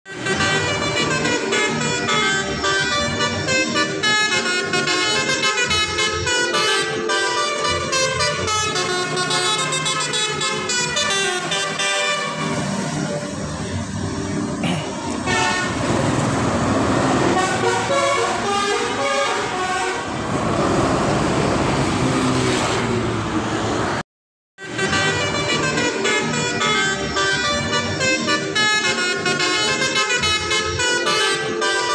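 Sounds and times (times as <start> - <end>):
bus noise: 0.0 - 24.0, 24.6 - 31.9
musical bus air horn: 0.1 - 21.2, 24.6 - 31.9.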